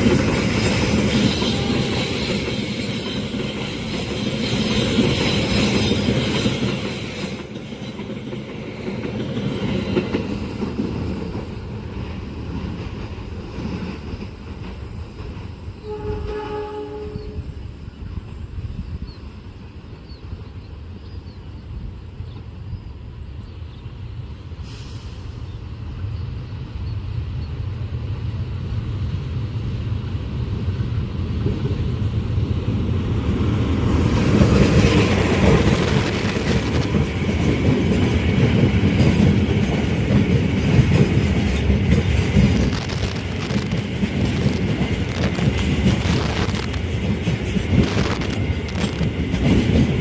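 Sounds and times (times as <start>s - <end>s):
train passing at speed: 0.0s - 50.0s.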